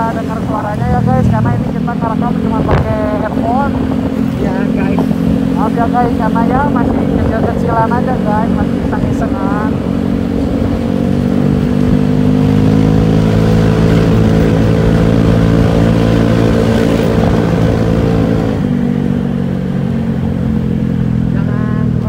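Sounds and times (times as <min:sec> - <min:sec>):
scooter engine running: 0:00.0 - 0:22.0
wind and road noise: 0:00.0 - 0:22.0.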